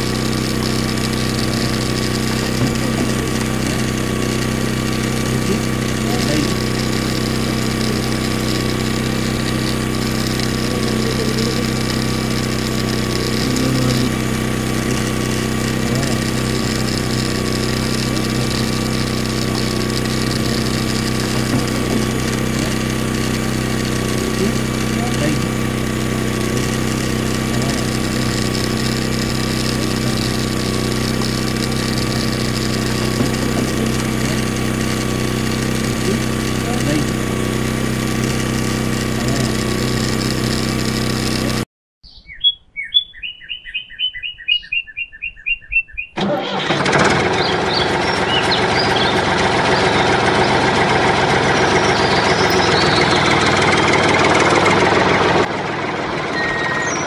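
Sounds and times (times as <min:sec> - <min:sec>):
small motor humming: 0:00.0 - 0:41.7, 0:46.2 - 0:57.0.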